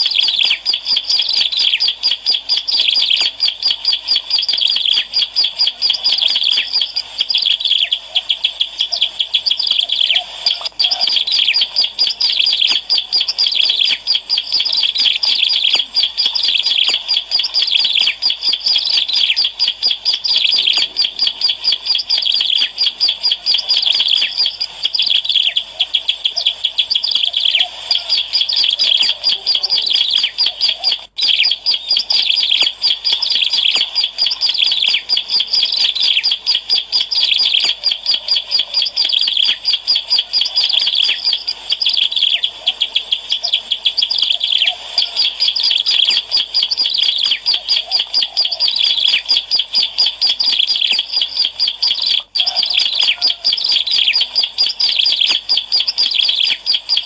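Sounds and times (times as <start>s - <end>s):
bird singing high chirps: 0.0s - 25.6s, 26.3s - 57.0s.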